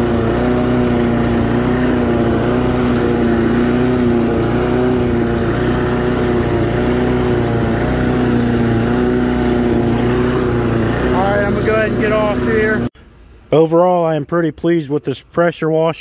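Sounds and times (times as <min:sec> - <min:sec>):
lawn mower engine running: 0:00.0 - 0:12.9.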